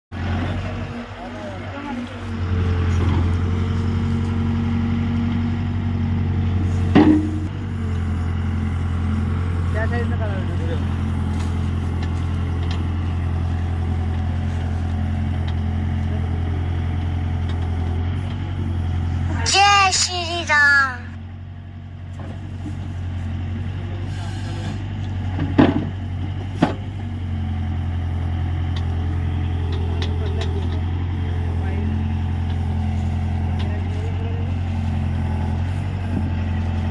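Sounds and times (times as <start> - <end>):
tractor diesel engine running: 0.1 - 36.9.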